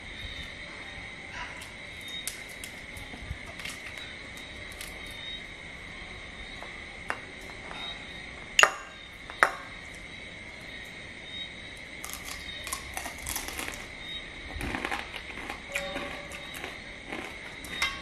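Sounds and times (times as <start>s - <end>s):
crackling of eating: 0.0s - 18.0s
steady high whine: 0.0s - 18.0s.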